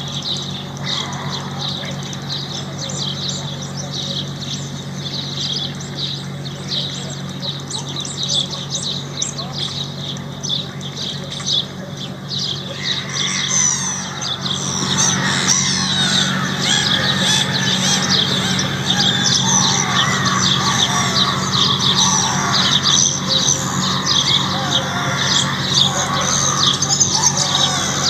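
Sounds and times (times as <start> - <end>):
birds chirping and twittering: 0.0 - 28.0
steady low hum: 0.0 - 28.0.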